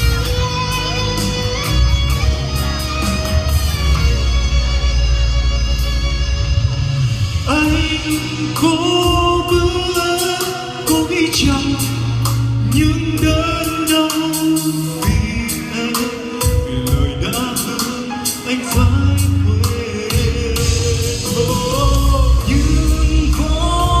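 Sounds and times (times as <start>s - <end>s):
pop-rock band music: 0.0s - 24.0s.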